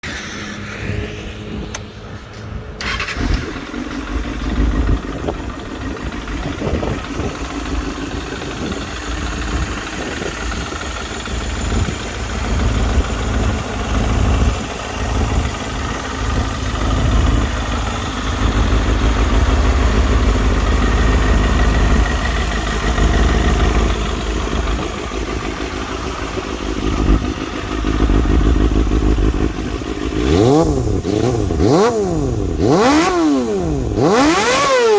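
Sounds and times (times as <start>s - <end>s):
motorcycle engine revving and idling: 0.0s - 34.9s
motorcycle engine starting: 0.0s - 34.9s.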